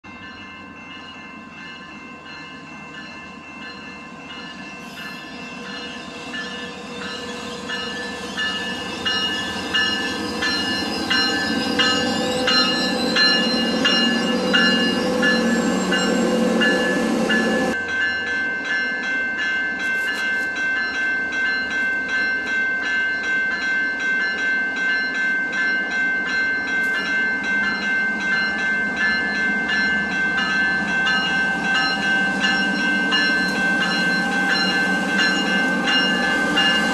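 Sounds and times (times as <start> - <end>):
train rumble: 0.1 - 19.1, 19.7 - 36.9
bell ringing: 0.1 - 36.9.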